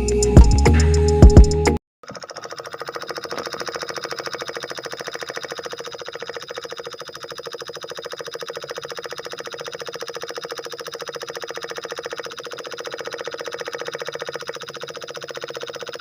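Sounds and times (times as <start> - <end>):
small diesel engine chugging: 2.0 - 16.0.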